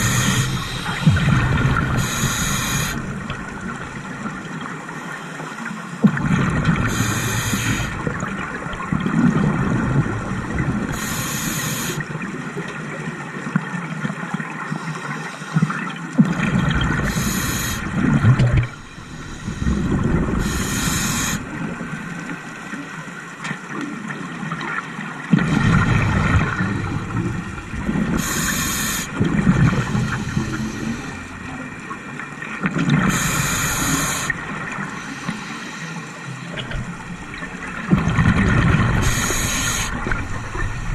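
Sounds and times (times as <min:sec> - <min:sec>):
exhaled bubbles hissing: 0:00.0 - 0:05.1, 0:06.0 - 0:12.5, 0:14.7 - 0:23.1, 0:25.3 - 0:40.9
gurgling water rumble: 0:00.0 - 0:40.9.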